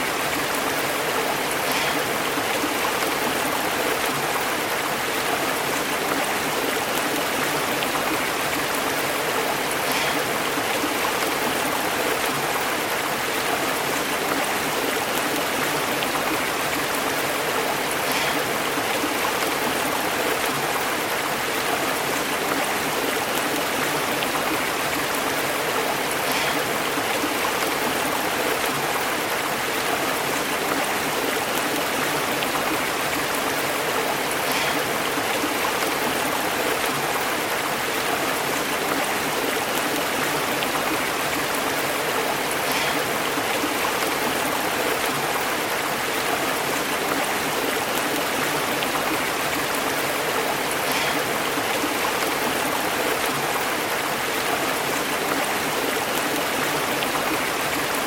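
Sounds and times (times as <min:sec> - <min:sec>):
stream bubbling over rocks: 0:00.0 - 0:58.0.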